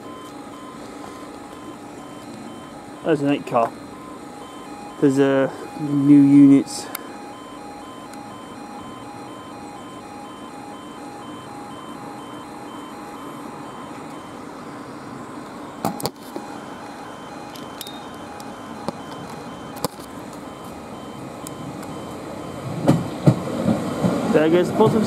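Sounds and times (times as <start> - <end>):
electric train approaching: 0.0 - 25.0
level crossing alarm pulsing: 0.0 - 25.0.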